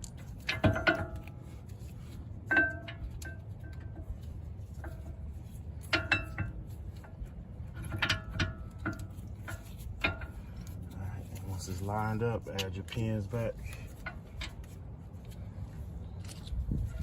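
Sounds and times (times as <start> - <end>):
metal brake parts clinking: 0.0 - 1.6, 2.4 - 14.7
low steady hum: 0.0 - 17.0.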